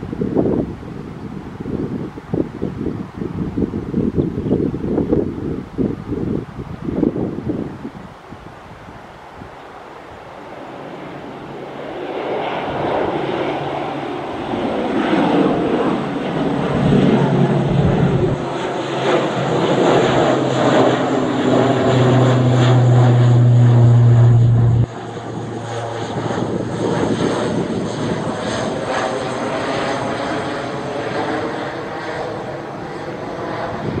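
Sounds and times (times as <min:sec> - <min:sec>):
propeller airliner drone: 0:00.0 - 0:34.0.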